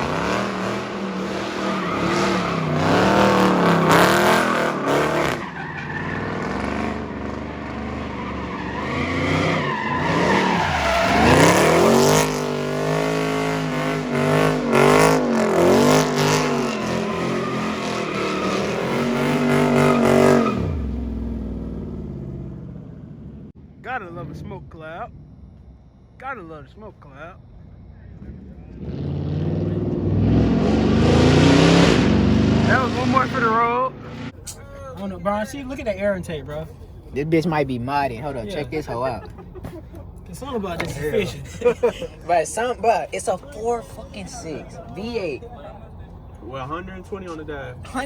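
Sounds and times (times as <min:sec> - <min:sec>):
tires squealing: 0:00.0 - 0:23.0, 0:27.7 - 0:48.0
car engine revving: 0:00.0 - 0:26.2, 0:27.1 - 0:48.0.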